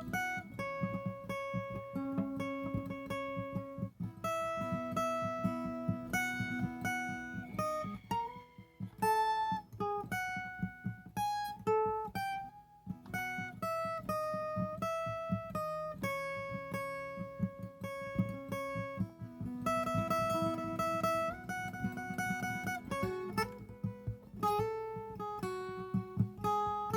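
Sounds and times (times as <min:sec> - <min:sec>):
guitar picked melody: 0:00.0 - 0:26.9
plucked string accompaniment: 0:00.0 - 0:26.9.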